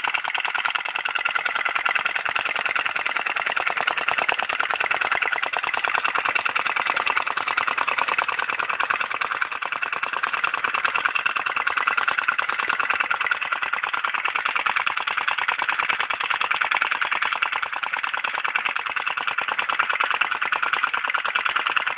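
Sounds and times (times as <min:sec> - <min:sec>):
model engine clicking clatter: 0:00.0 - 0:21.9.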